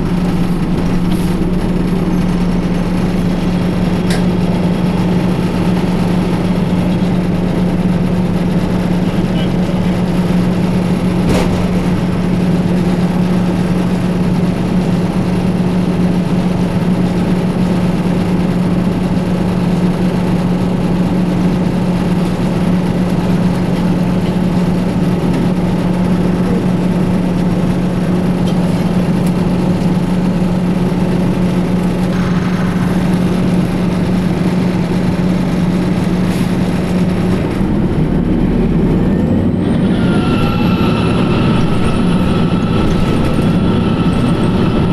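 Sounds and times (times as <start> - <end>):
bus diesel engine drone: 0.0 - 44.9.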